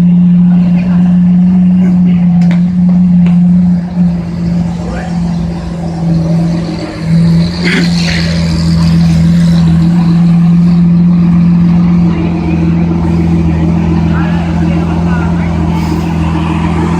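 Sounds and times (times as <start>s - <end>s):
vehicle engine running steadily: 0.0s - 16.9s.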